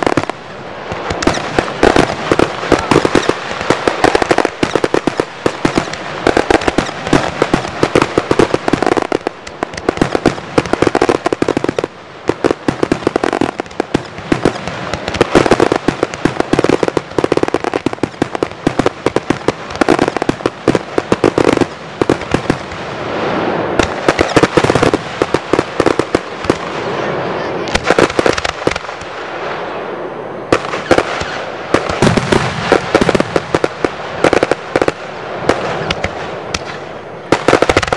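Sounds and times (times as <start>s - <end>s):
fireworks bangs and crackling: 0.0s - 37.9s.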